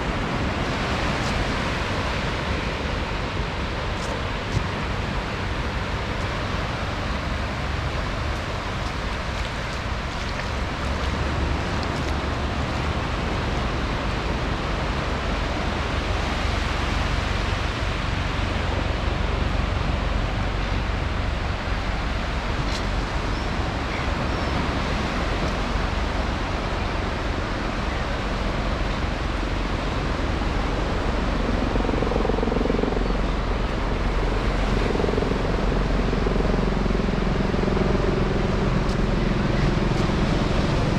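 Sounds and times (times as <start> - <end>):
aircraft engine hum: 0.0 - 40.9
ocean surf: 0.0 - 40.9
wind on microphone: 0.0 - 40.9.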